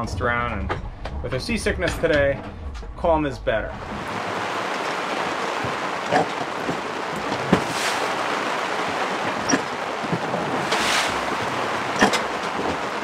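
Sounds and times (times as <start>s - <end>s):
driving rain and wind: 0.0s - 13.0s.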